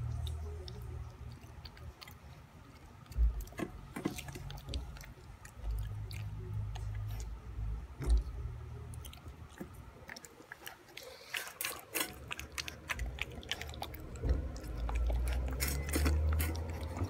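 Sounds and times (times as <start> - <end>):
dog chewing and licking: 0.0 - 7.4, 8.0 - 17.0.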